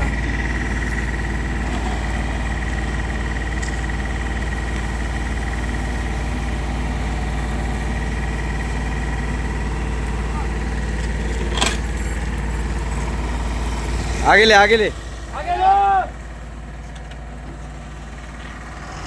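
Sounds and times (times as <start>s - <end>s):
engine running with high whine: 0.0s - 19.0s.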